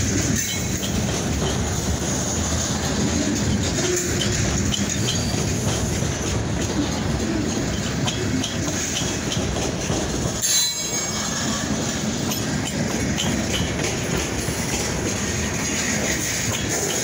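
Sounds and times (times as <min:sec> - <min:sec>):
train wheels rumbling on rails: 0:00.0 - 0:17.0
wheels clacking: 0:00.0 - 0:17.0.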